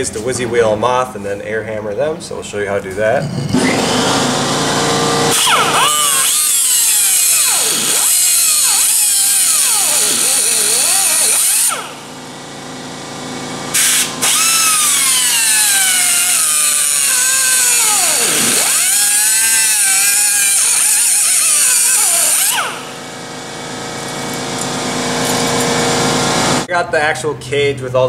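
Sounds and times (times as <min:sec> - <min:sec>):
cut-off wheel whining and grinding: 0:03.3 - 0:26.7.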